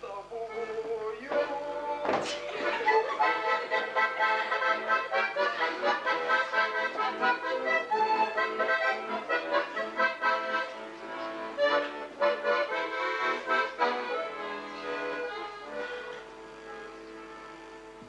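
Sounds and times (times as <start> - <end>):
accordion playing a tune: 0.5 - 18.0.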